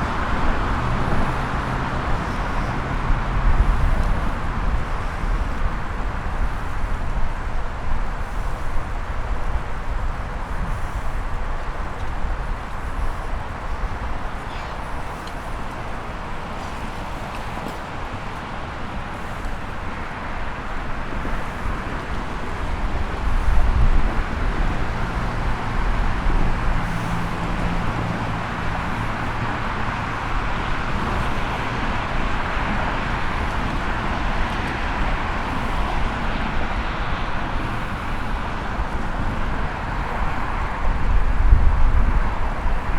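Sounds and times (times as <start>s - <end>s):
passing vehicle rumble: 0.0s - 42.9s
road traffic noise: 0.0s - 42.9s.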